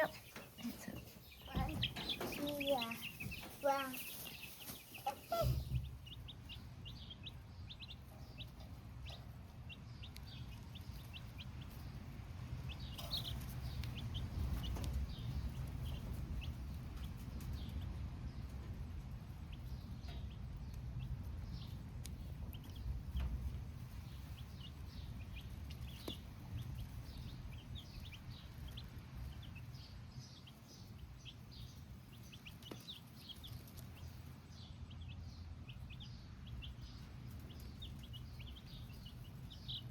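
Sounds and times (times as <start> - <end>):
baby chicks cheeping: 0.0 - 39.9
low steady rumble: 5.0 - 39.9.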